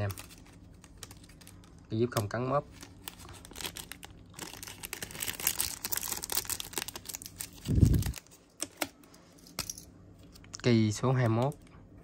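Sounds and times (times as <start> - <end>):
crinkling handling noise: 0.0 - 10.7.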